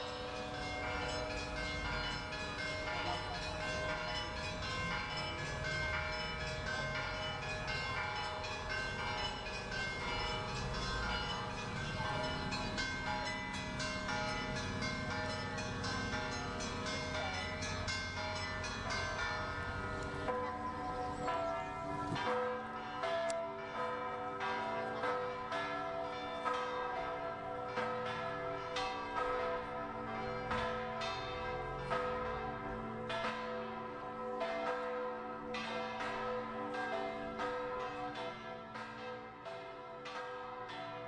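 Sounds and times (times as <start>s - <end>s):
church bells pealing: 0.0s - 41.0s.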